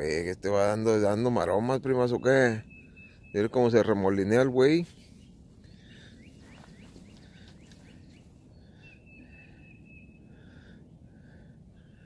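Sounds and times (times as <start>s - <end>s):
birds singing: 0.0s - 12.0s
faint low outdoor rumble: 0.0s - 12.0s.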